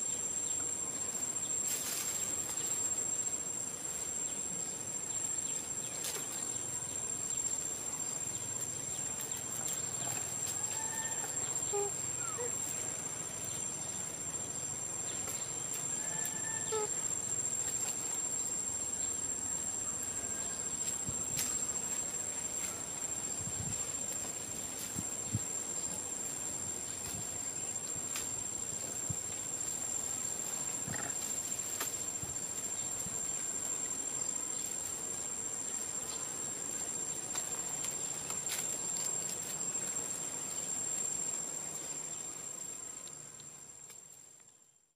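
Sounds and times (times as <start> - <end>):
insects shrilling: 4.9 - 43.7.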